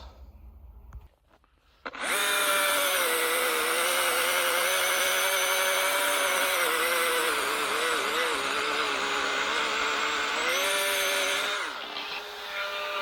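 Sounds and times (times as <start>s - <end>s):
electric saw motor whine: 1.9s - 13.0s.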